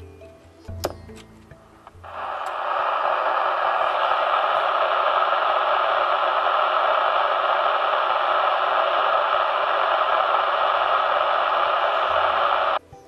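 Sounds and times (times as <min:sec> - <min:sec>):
radio static hiss: 0:01.9 - 0:12.8.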